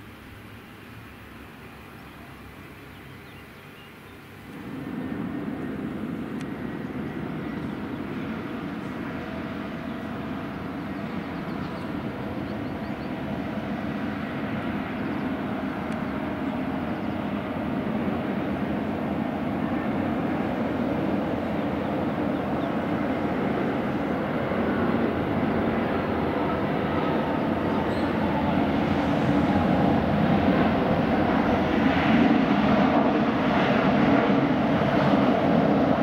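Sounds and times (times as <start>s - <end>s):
jet engine whine: 0.0s - 36.0s
jet engines rumbling: 0.0s - 36.0s.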